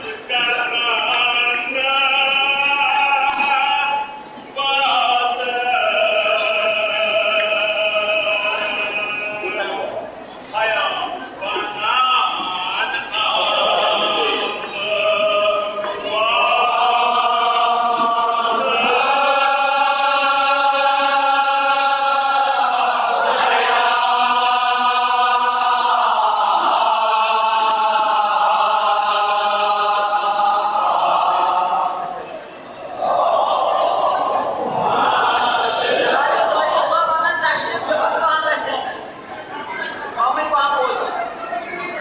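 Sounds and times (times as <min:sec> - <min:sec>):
group chanting an elegy: 0:00.0 - 0:38.8.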